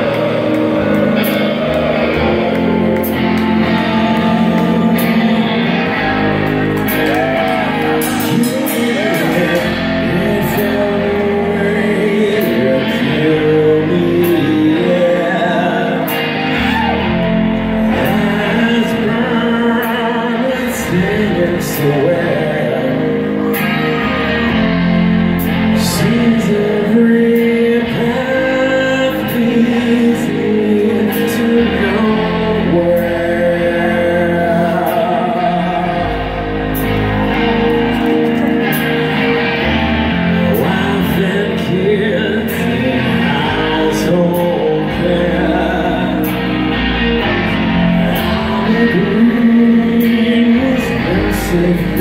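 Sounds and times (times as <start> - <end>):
man singing: 0.0 - 24.6, 25.5 - 37.0, 40.3 - 52.0
rock band playing: 0.0 - 52.0.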